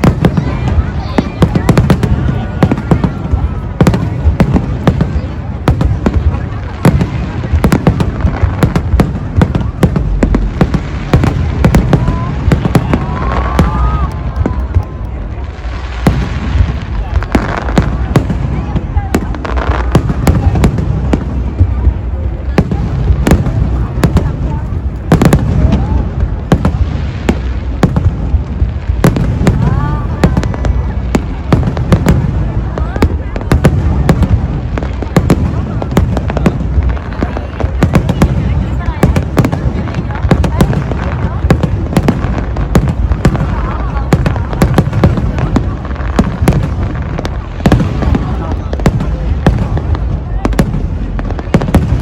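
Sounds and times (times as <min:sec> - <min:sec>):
crowd voices: 0:00.0 - 0:52.0
fireworks bursting: 0:00.0 - 0:52.0.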